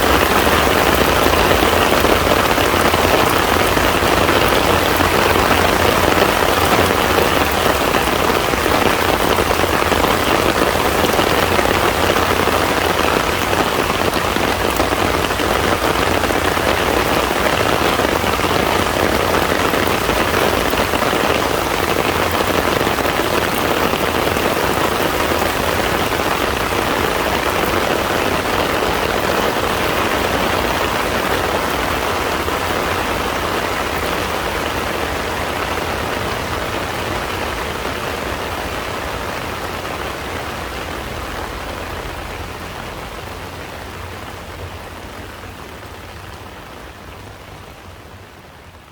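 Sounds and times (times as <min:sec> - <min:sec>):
heavy rain falling on pond: 0:00.0 - 0:48.9.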